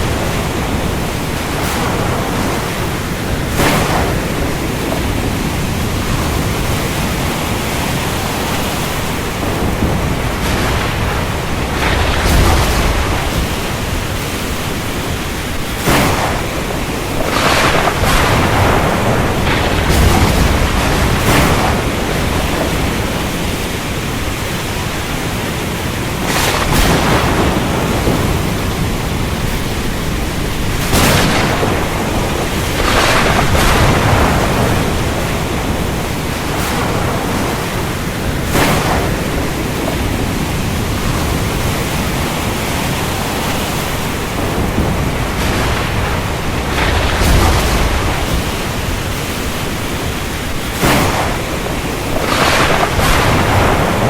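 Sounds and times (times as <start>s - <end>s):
heavy rain: 0.0s - 54.0s
rolling thunder rumble: 0.0s - 54.0s
sharp thunder cracks: 0.0s - 54.0s.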